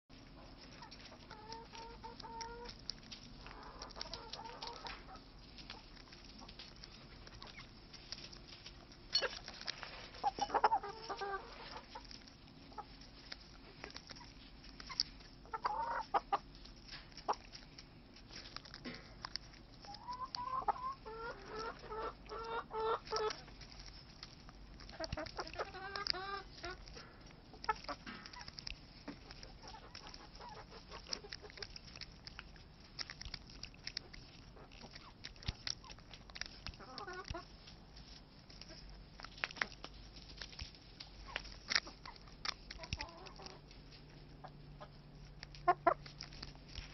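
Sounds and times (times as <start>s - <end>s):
hens clucking: 0.3s - 17.6s, 18.8s - 23.7s, 24.6s - 32.5s, 33.8s - 37.8s, 40.8s - 46.2s.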